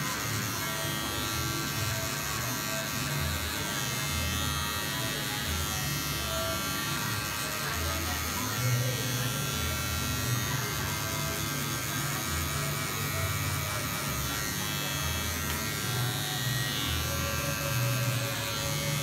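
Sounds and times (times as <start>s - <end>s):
electric hair clippers running: 0.0s - 19.0s.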